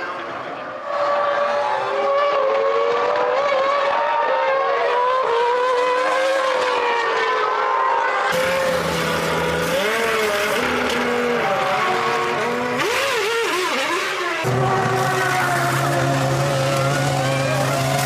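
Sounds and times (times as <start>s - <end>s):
racing car engines screaming: 0.0s - 18.0s
racing car shifting gears: 1.4s - 18.0s.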